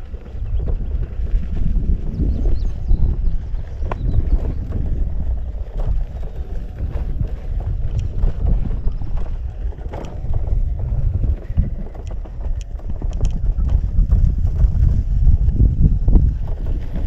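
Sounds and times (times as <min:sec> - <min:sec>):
tyre rolling: 0:00.0 - 0:17.0
wind rumble on microphone: 0:00.0 - 0:17.0.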